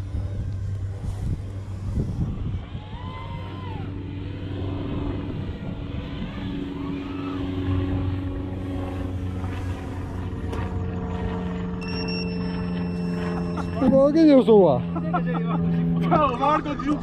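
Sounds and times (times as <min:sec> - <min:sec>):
quadcopter motors whining: 0:00.0 - 0:17.0
steady low hum: 0:00.0 - 0:17.0.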